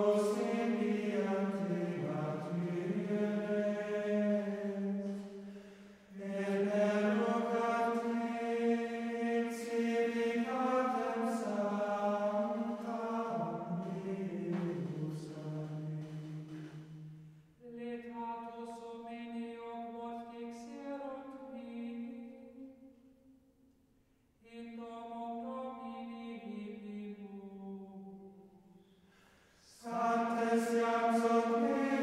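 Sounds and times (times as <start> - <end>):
slow vocal music: 0.0 - 23.0, 24.4 - 32.0.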